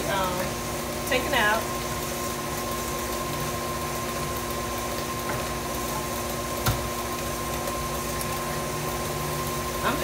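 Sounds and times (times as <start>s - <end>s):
stand mixer whining: 0.0s - 10.0s.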